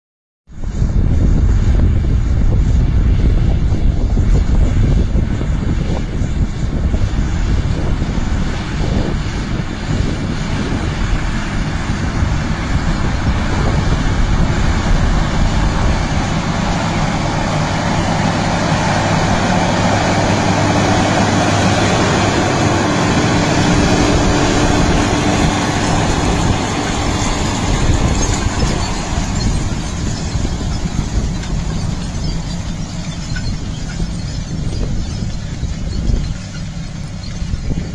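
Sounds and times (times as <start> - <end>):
tractor diesel engine running: 0.6 - 37.9.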